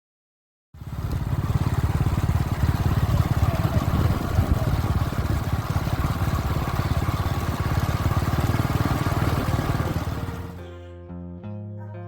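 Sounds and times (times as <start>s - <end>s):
motorcycle engine running: 0.8s - 10.6s.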